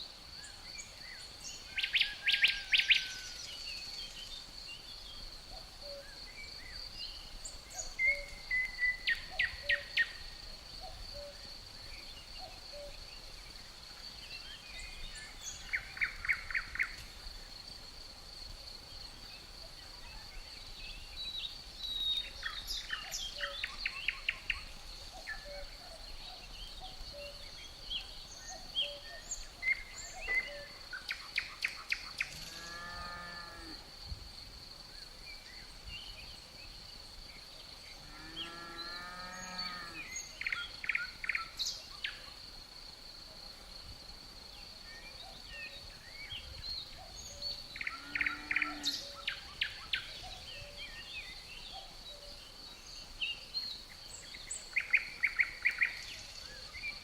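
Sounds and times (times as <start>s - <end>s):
insect trill: 0.0s - 57.0s.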